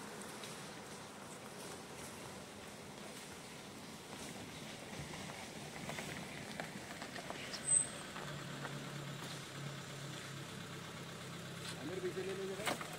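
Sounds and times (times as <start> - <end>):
vehicle engine idling: 0.0 - 12.9.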